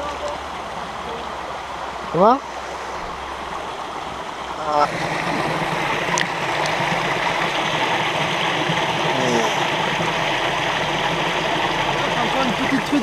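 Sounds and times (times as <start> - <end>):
muffled underwater stream rush: 0.0 - 13.0.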